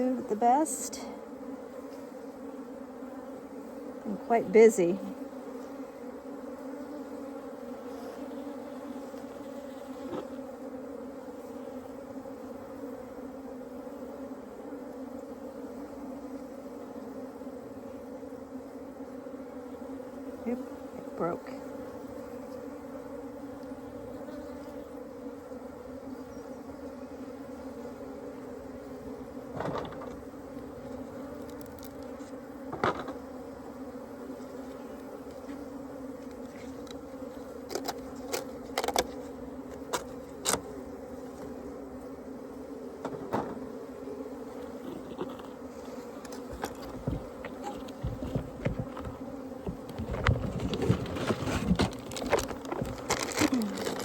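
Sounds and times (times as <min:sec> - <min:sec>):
honeybee colony buzzing: 0:00.0 - 0:54.0.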